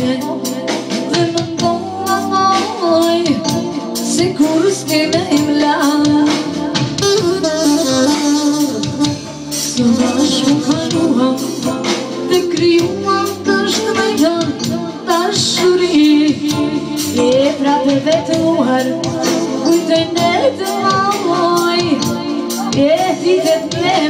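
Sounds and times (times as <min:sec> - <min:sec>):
band music with steady beat: 0:00.0 - 0:24.0
woman singing into microphone: 0:00.0 - 0:24.0.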